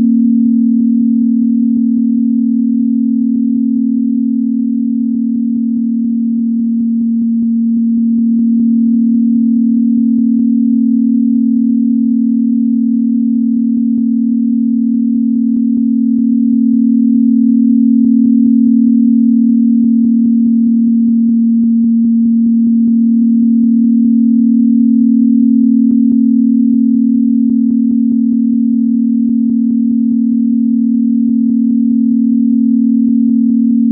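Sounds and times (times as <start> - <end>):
low sine tone: 0.0 - 33.9.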